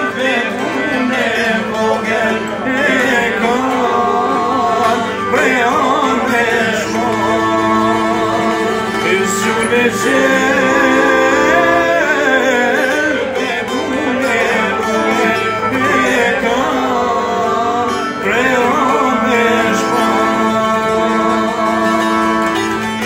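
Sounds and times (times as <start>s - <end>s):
men singing folk song: 0.0s - 23.0s
plucked lutes strumming: 0.0s - 23.0s.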